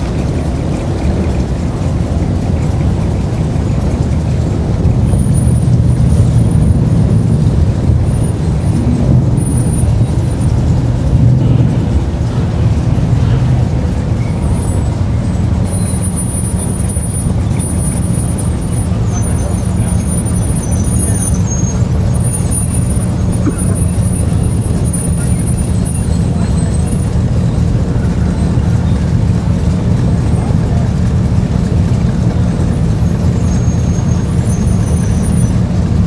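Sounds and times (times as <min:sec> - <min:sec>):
traffic rumble: 0:00.0 - 0:36.0.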